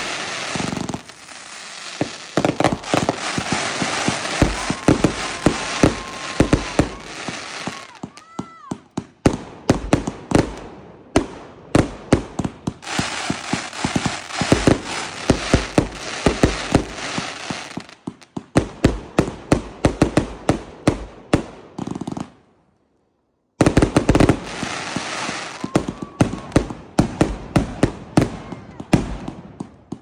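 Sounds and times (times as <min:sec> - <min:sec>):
fireworks bangs: 0:00.0 - 0:22.2, 0:23.6 - 0:30.0
fireworks shots and crackling: 0:00.0 - 0:22.5, 0:23.6 - 0:30.0.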